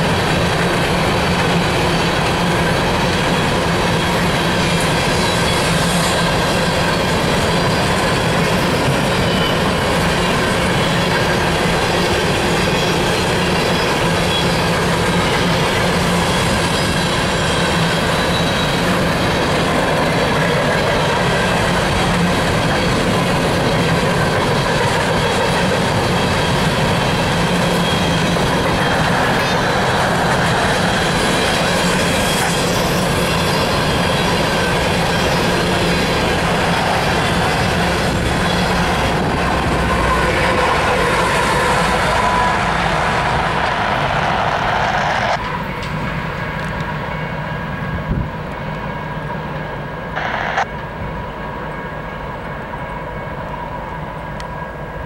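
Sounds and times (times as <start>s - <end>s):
diesel locomotive engine running: 0.0s - 55.0s
steel wheels rumbling on rails: 0.0s - 55.0s
wheels squealing: 0.6s - 45.5s.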